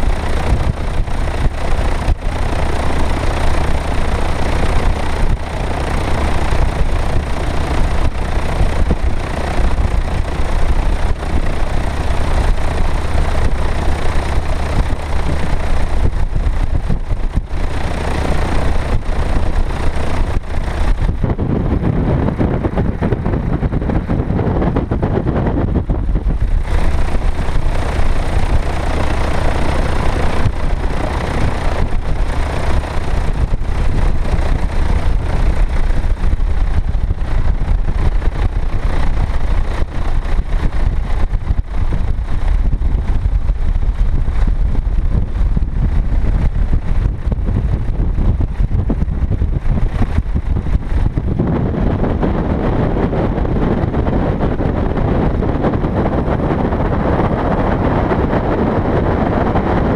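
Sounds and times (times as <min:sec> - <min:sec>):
light aircraft engine taxiing: 0:00.0 - 0:59.9
wind rumble on microphone: 0:00.0 - 0:59.9.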